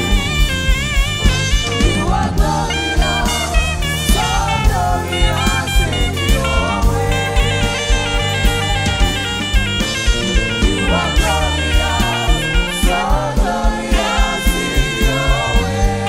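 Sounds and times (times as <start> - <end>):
backing singers: 0.0 - 16.0
band playing: 0.0 - 16.0
saxophone melody with vibrato: 0.0 - 16.0
steady kick drum: 0.0 - 16.0.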